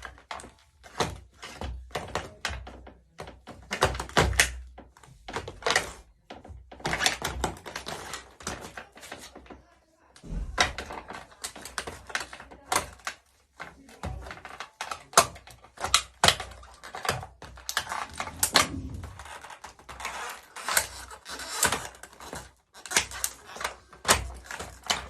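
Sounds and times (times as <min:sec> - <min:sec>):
plastic toy car cracking: 0:00.0 - 0:09.6, 0:10.2 - 0:25.0.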